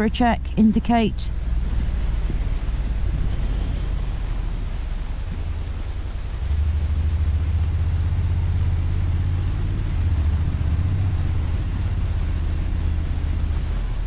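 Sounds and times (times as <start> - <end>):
motorcycle engine rumble: 0.0 - 14.0
wind noise: 0.0 - 14.0.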